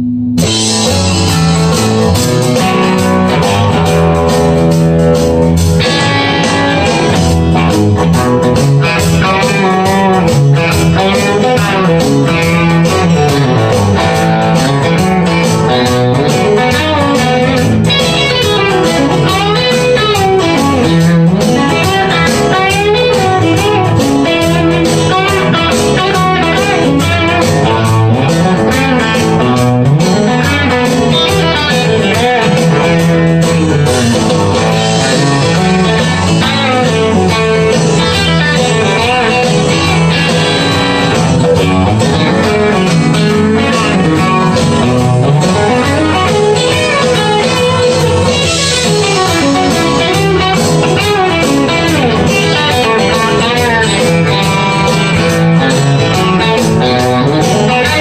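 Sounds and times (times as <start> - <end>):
electric guitar licks with bends: 0.0 - 58.0.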